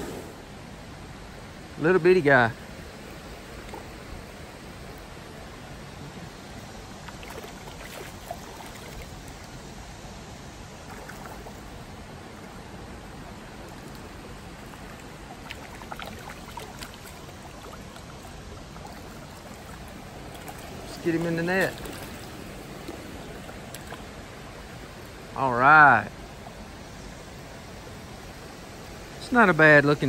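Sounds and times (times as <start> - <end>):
creek water running: 0.0 - 30.0
faint water splashes: 0.0 - 30.0.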